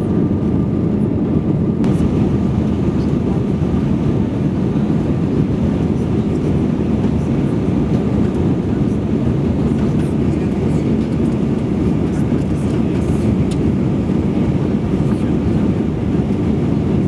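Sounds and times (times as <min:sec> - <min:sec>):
jet engine noise in cabin: 0:00.0 - 0:17.0.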